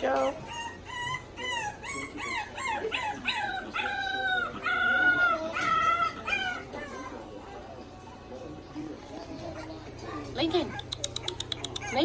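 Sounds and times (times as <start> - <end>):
puppies crying and whining: 0.0 - 8.2, 9.3 - 12.0.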